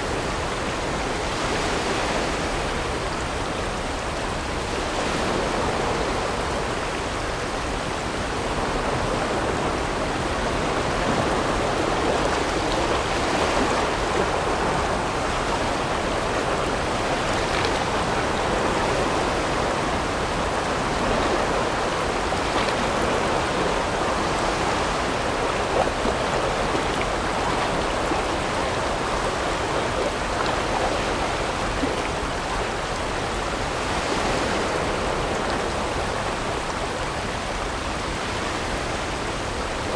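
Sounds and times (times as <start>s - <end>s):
river water rushing: 0.0s - 39.9s
faint water splashes: 4.5s - 39.9s.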